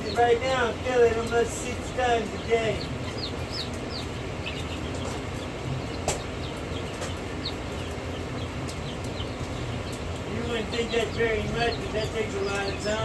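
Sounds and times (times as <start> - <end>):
baby chicks peeping: 0.0 - 13.0
steady low hum: 0.0 - 13.0.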